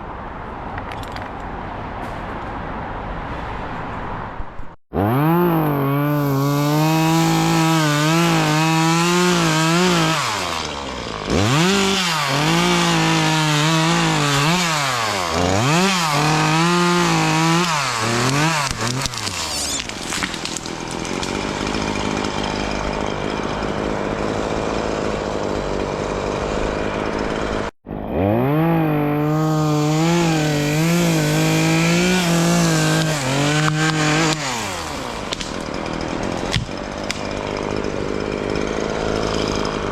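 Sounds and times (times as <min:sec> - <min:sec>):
chainsaw cutting wood: 0:04.9 - 0:39.9.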